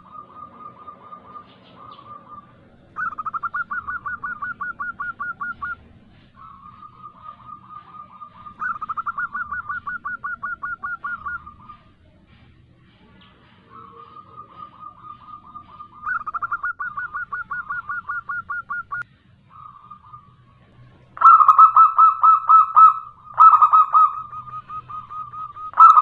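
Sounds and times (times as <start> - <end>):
dove trilling coo notes: 0.0 - 26.0.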